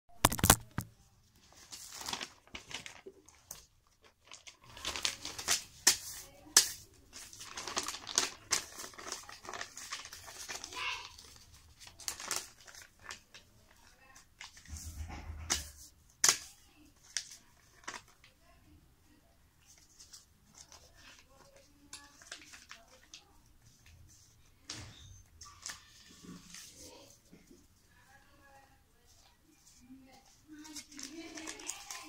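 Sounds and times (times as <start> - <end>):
paper rustling and crinkling: 0.2 - 18.4, 19.6 - 27.8, 29.0 - 32.0.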